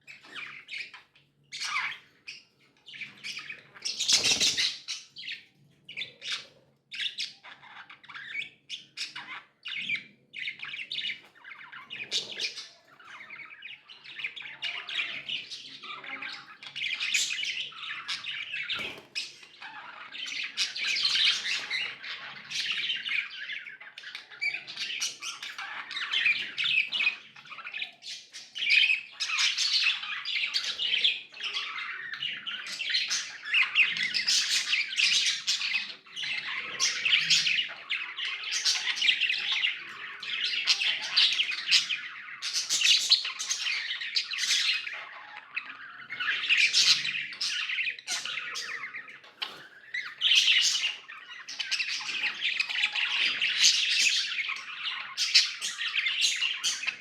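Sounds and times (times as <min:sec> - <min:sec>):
budgerigars chirping: 0:00.1 - 0:57.0.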